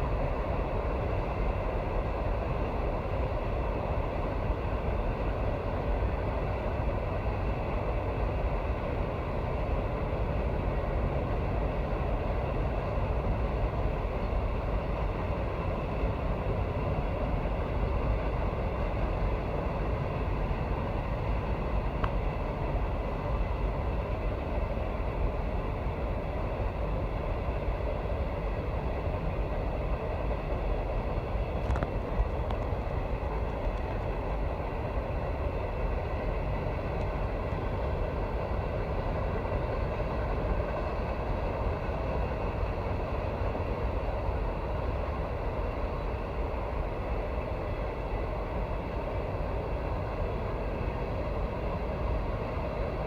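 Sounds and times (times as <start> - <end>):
train wheels on rail: 0.0 - 53.0.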